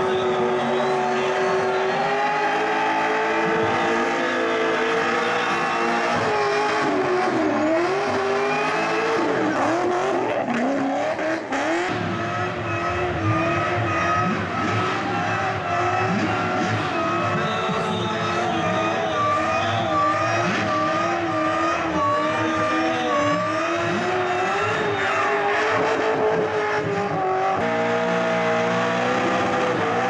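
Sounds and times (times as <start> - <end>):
car engine at high revs: 0.0 - 30.0
spinning tyres rushing: 0.0 - 30.0.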